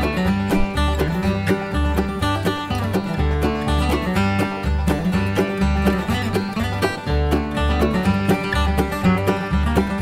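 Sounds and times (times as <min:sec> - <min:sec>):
lively plucked-string music: 0:00.0 - 0:10.0.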